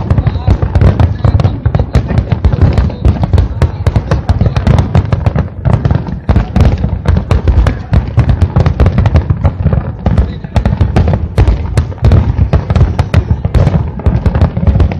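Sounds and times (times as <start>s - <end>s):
fireworks bangs and crackles: 0.0s - 14.9s.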